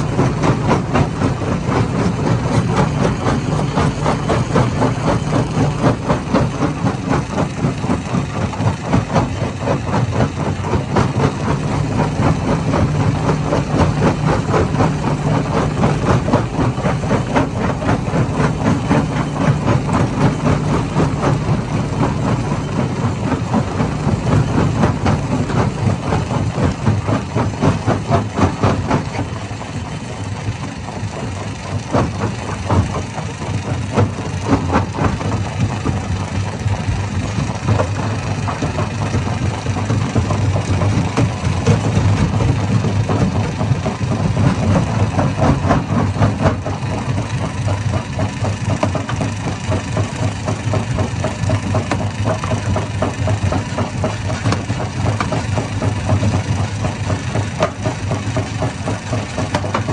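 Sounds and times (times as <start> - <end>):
stone crusher engine drone: 0.0 - 59.9.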